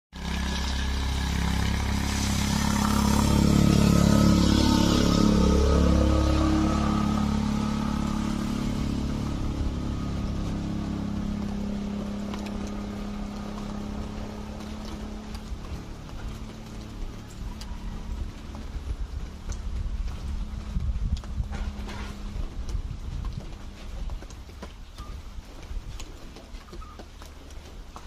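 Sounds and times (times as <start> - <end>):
vehicle engine running: 0.2 - 28.0.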